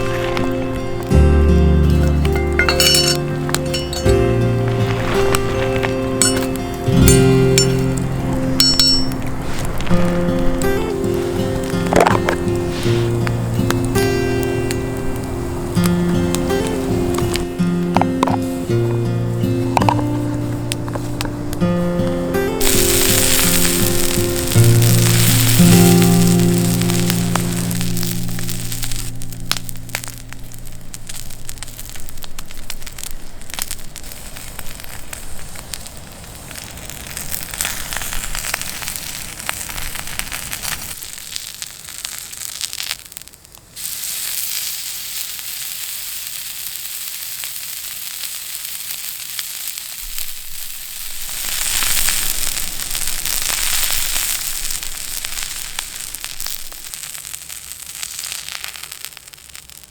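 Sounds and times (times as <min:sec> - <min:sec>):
campfire crackling: 0:00.0 - 0:59.9
meat sizzling on griddle: 0:00.0 - 0:59.9.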